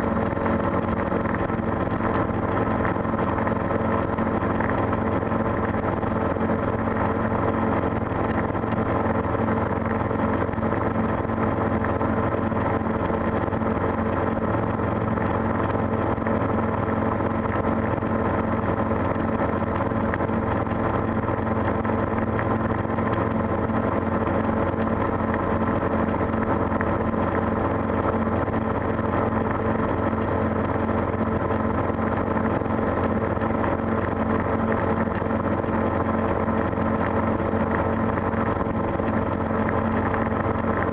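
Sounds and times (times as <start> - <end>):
aircraft engine idling: 0.0 - 40.9.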